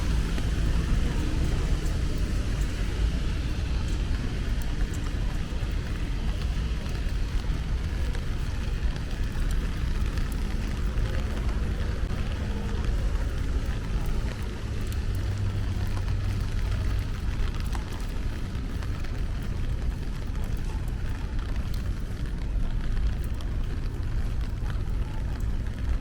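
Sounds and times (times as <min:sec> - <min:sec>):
hiss of rain: 0:00.0 - 0:26.0
low rumble of traffic: 0:00.0 - 0:26.0
ticks of raindrops: 0:00.0 - 0:26.0.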